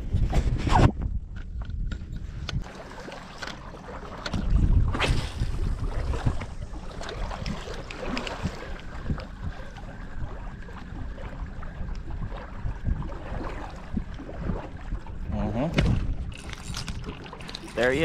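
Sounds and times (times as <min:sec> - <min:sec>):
wind buffeting microphone: 0:00.0 - 0:02.7, 0:04.3 - 0:18.0
waves lapping against boat hull: 0:00.0 - 0:18.0.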